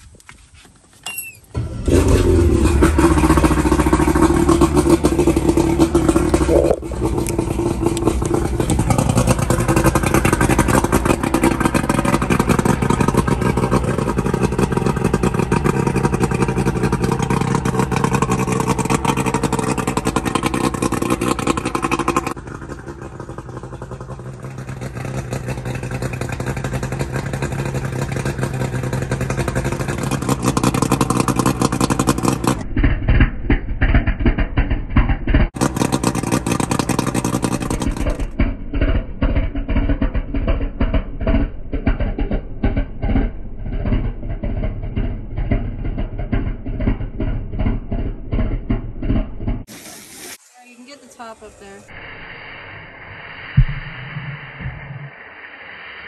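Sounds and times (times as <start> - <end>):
two-stroke outboard motor running: 1.6 - 49.6.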